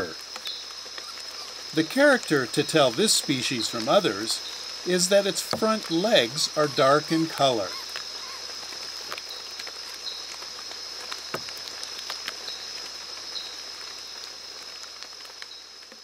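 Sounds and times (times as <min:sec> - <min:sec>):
high-pitched insect buzz: 0:00.0 - 0:15.7.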